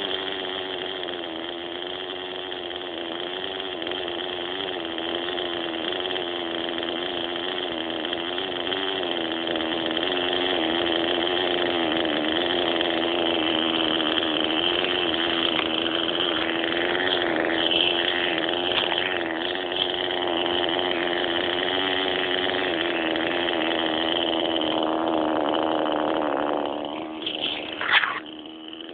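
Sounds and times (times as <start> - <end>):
model helicopter engine buzzing: 0.0 - 28.9.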